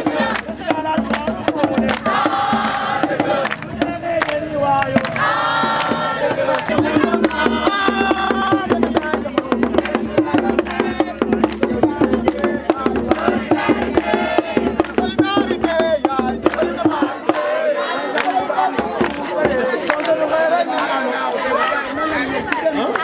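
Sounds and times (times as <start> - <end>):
fast dense percussion: 0.0 - 17.6, 18.6 - 20.1
voices singing together: 0.0 - 23.0.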